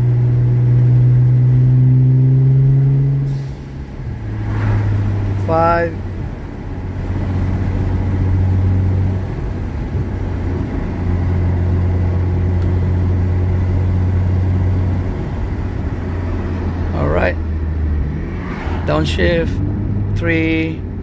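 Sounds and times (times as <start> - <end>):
car engine drone from cabin: 0.0 - 21.0.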